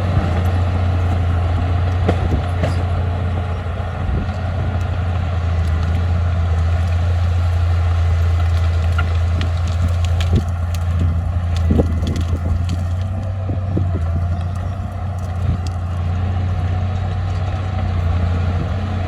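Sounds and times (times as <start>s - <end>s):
bulldozer diesel engine drone: 0.0s - 19.0s
tracks clanking and crunching soil: 0.0s - 19.0s.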